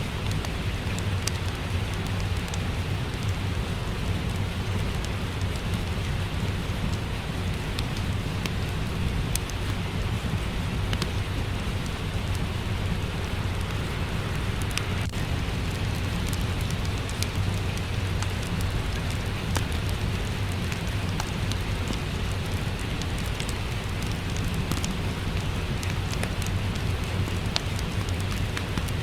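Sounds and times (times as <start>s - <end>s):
fireplace crackling: 0.0s - 29.0s
steady rain: 0.0s - 29.0s.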